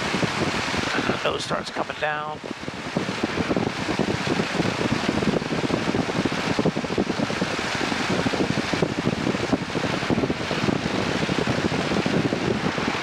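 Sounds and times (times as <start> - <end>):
propeller plane engine drone: 0.0 - 13.0
rushing air: 0.0 - 13.0.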